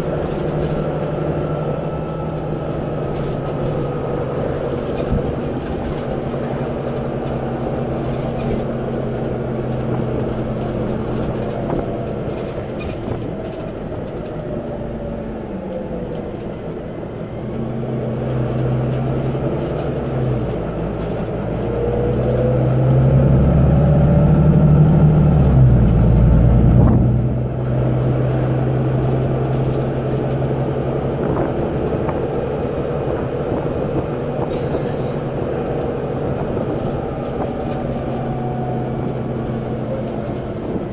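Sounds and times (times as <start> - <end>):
bus diesel engine running: 0.0 - 40.9
engine whine: 0.0 - 40.9.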